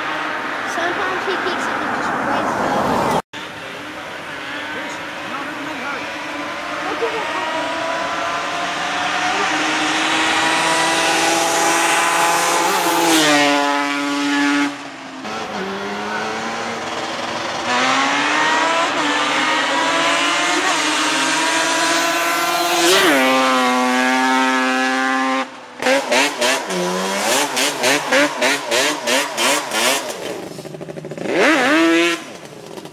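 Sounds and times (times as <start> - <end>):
two-stroke engine passing: 0.0 - 32.9.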